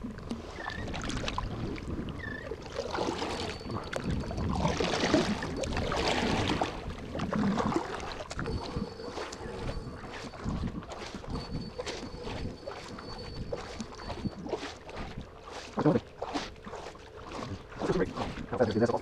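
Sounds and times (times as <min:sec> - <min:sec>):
kayak paddle splashing: 0:00.0 - 0:19.0
water washing along plastic hull: 0:00.0 - 0:19.0.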